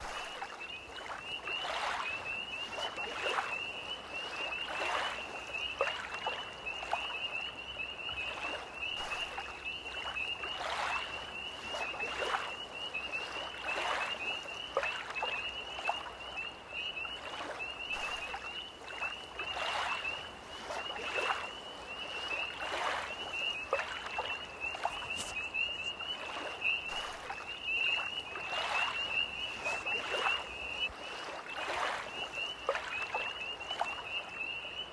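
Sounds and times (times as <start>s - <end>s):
small waves lapping: 0.0s - 34.9s
tree frogs trilling: 0.0s - 34.9s.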